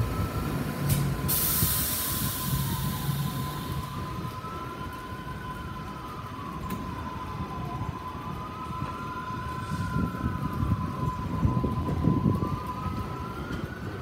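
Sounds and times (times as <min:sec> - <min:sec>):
subway train rumbling: 0:00.0 - 0:14.0
siren wailing: 0:02.2 - 0:14.0.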